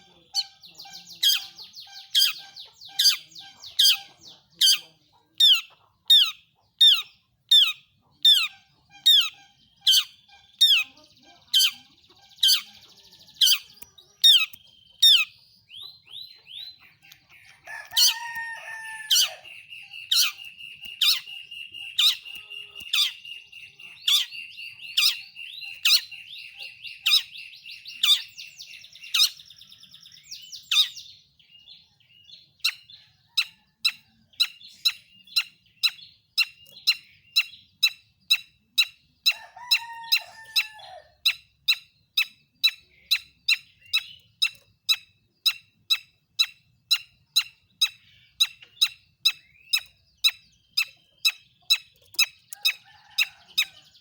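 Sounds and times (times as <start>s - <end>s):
bird singing sharp calls: 0.0s - 54.0s.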